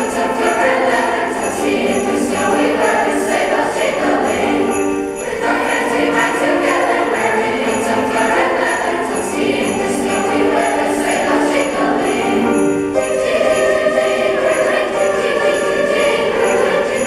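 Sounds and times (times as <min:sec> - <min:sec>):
children's chorus singing: 0:00.0 - 0:17.0
sleigh bells jingling: 0:00.0 - 0:17.0.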